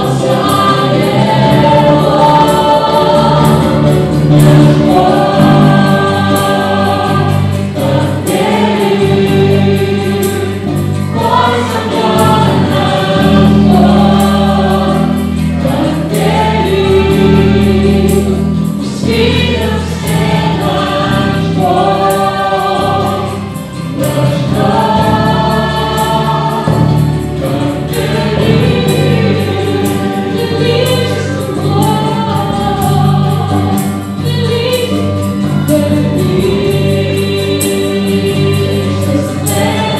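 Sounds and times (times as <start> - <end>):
acoustic guitar: 0.0 - 39.9
electric bass: 0.0 - 39.9
group singing into microphones: 0.0 - 39.9
keyboard: 0.0 - 39.9.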